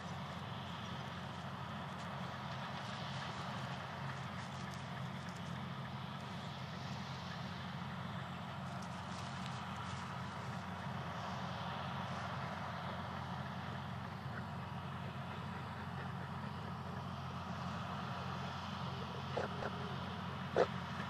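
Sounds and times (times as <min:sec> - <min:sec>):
farm machinery engine droning: 0:00.0 - 0:21.0.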